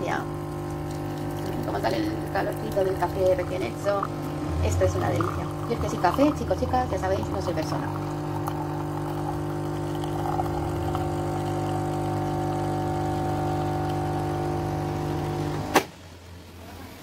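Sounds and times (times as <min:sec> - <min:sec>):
coffee machine pump humming: 0:00.0 - 0:15.9.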